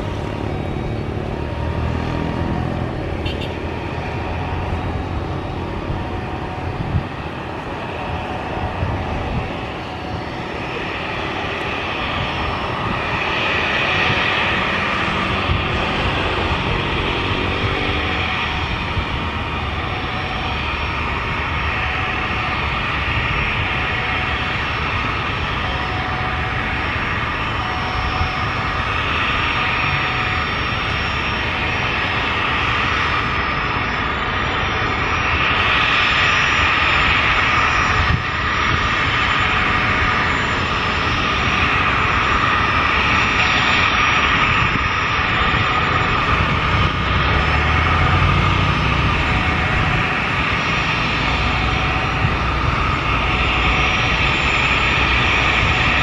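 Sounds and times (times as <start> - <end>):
jet engines whine and rumble: 0.0 - 56.0.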